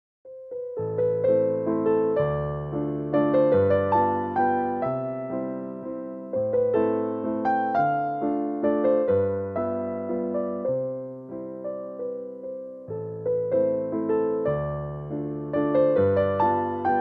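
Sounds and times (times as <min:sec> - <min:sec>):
gentle piano melody: 0:00.3 - 0:17.0.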